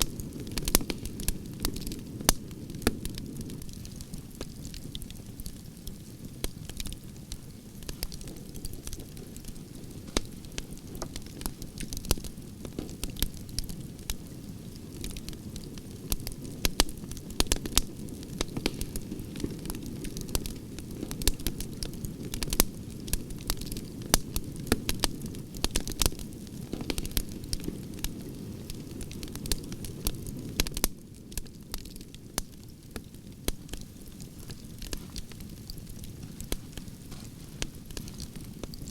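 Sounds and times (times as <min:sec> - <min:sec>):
fire crackling and popping: 0:00.0 - 0:38.9
flames rumbling: 0:00.0 - 0:38.9.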